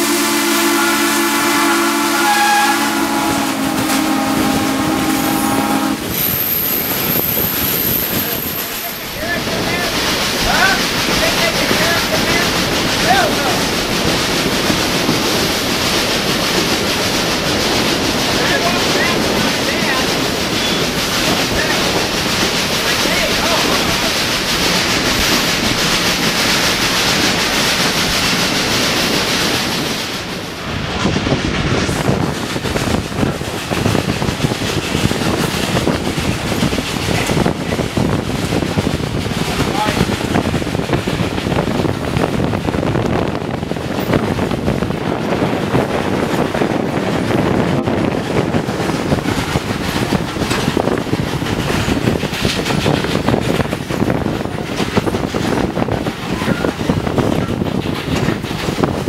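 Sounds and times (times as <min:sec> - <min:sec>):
train cars rumbling on rails: 0:00.0 - 0:59.0
wind rushing past train: 0:00.0 - 0:59.0.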